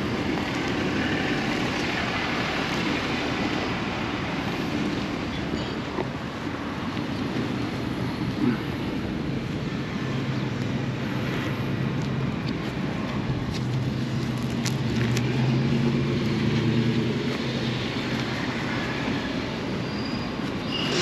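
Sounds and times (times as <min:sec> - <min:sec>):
road and traffic noise: 0:00.0 - 0:21.0.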